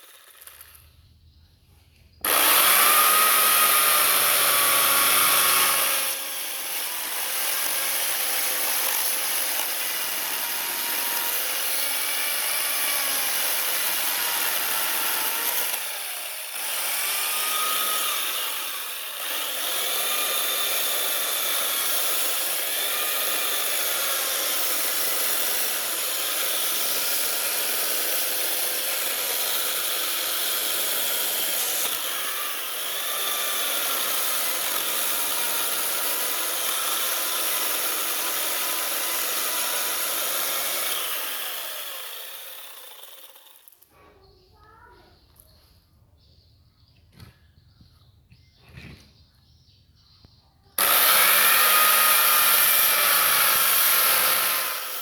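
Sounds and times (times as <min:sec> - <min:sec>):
power tool cutting wood: 0:00.0 - 0:00.8, 0:02.2 - 0:43.8, 0:50.8 - 0:55.0.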